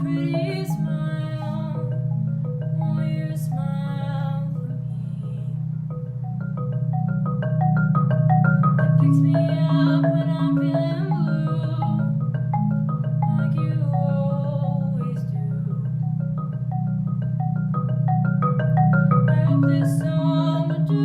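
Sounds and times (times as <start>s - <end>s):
marimba playing: 0.0s - 21.0s.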